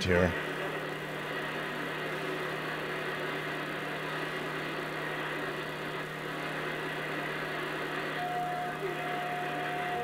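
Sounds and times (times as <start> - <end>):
radio static hiss: 0.0 - 10.0
steady low hum: 0.0 - 10.0.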